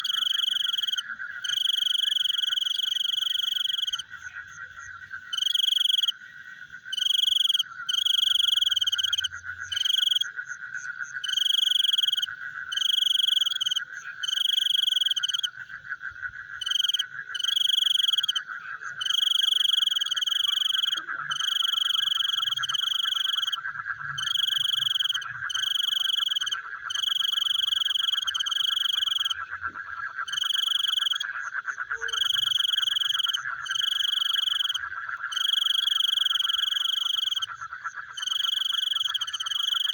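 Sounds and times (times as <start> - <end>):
frog high-pitched calls: 0.0 - 39.9
trilling insect chorus: 0.0 - 39.9.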